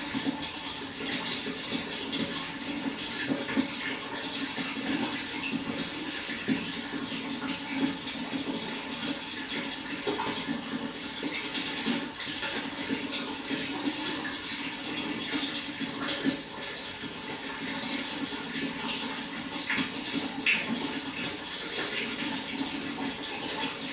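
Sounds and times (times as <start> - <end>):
water flowing and splashing: 0.0 - 23.9.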